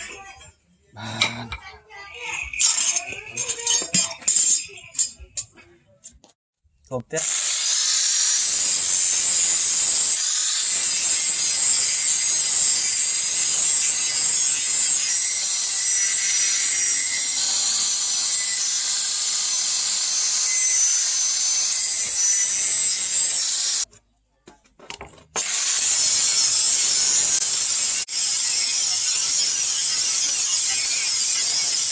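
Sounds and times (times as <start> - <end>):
power grinder grinding steel: 1.1 - 5.2, 7.2 - 23.9, 25.4 - 31.9.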